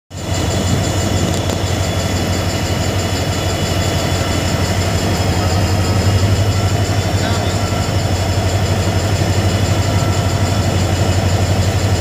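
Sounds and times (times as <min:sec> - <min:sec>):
locomotive engine low hum: 0:00.1 - 0:12.0.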